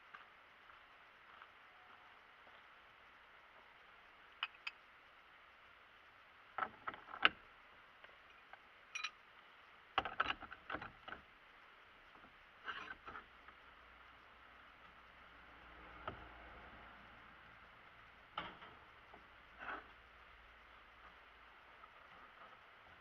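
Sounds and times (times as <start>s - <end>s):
faint steady background noise: 0.0s - 23.0s.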